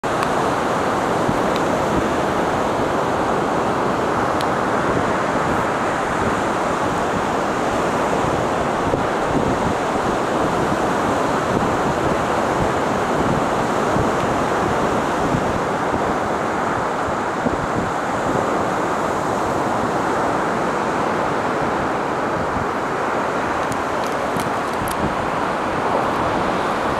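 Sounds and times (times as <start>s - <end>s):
surf rushing: 0.0s - 26.9s
wind buffeting microphone: 0.0s - 26.9s.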